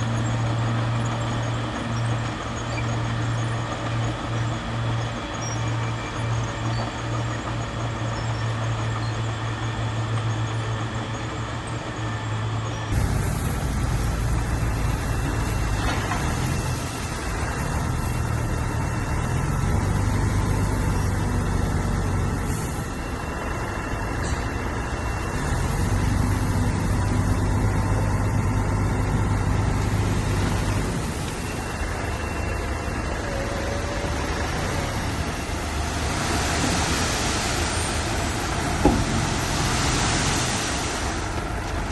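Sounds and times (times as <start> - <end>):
bulldozer diesel engine drone: 0.0 - 41.9.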